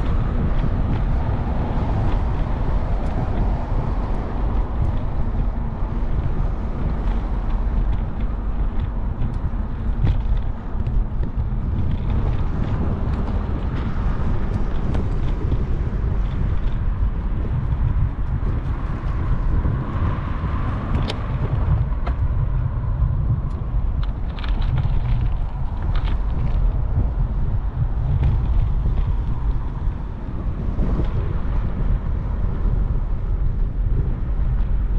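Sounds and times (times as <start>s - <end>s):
road traffic: 0.0s - 34.9s
wind rushing over microphone: 0.0s - 34.9s.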